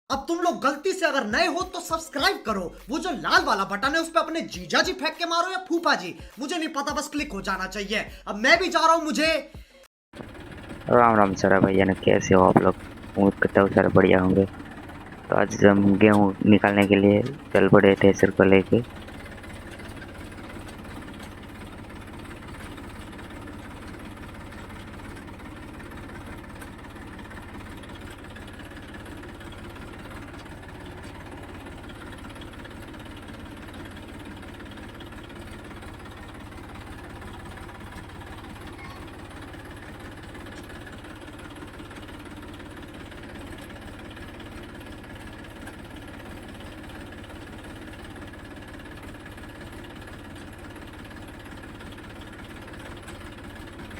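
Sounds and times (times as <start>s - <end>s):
tractor engine running: 10.1s - 53.9s.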